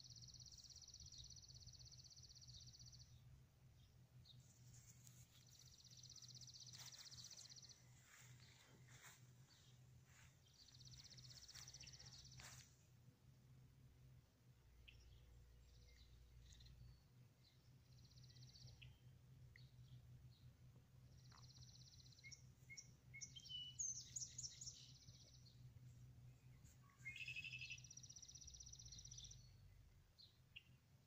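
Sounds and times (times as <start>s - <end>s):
faint birdsong trills and chirps: 0.0s - 31.0s
low steady hum: 0.0s - 31.0s.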